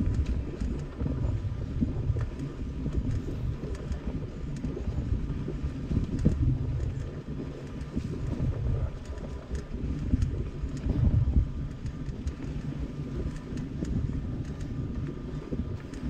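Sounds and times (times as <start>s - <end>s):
bike clicks and rattles: 0.0s - 16.0s
wind on microphone: 0.0s - 16.0s.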